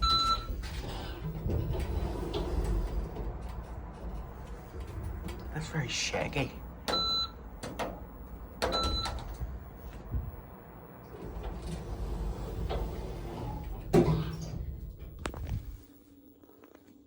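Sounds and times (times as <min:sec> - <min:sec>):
lift doors sliding with hum: 0:00.0 - 0:16.4.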